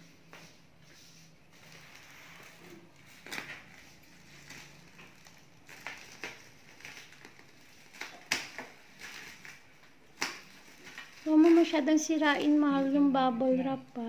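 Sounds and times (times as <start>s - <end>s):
bubble wrap crinkling: 1.5s - 13.1s.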